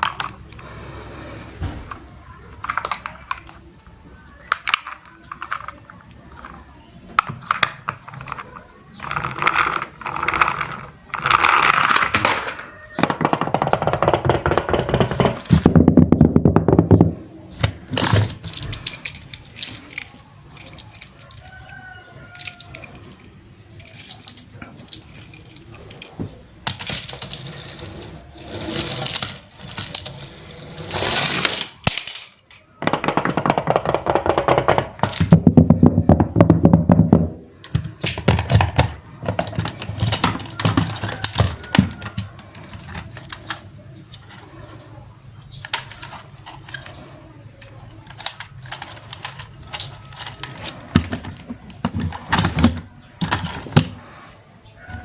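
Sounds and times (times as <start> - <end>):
small hard objects clattering: 4.4 - 44.8, 45.4 - 54.2.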